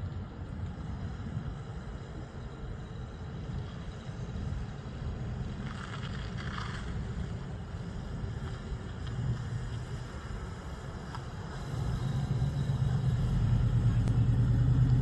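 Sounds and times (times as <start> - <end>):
engine rumbling at low speed: 0.0 - 15.0.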